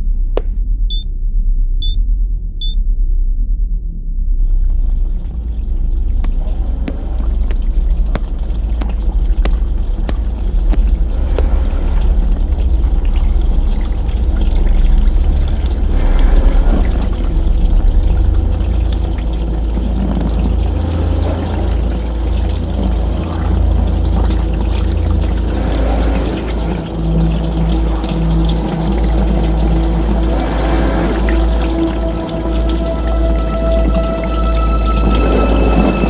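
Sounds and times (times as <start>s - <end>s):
heavy low rumble: 0.0s - 36.0s
water pouring and sloshing: 4.6s - 36.0s.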